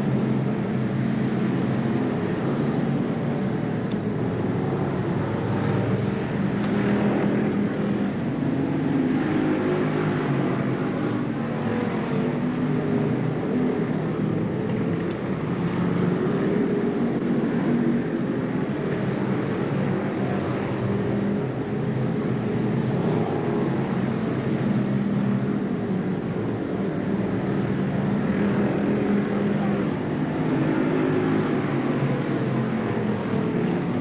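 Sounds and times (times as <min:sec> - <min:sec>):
race car engines passing: 0:00.0 - 0:34.0.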